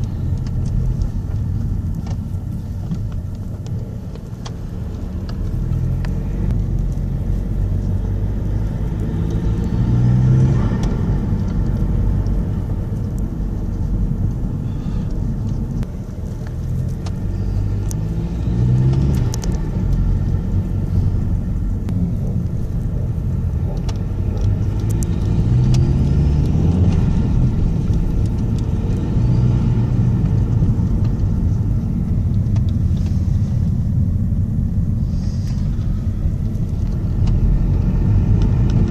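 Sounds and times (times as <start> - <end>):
diesel engine revving: 4.0 - 38.9.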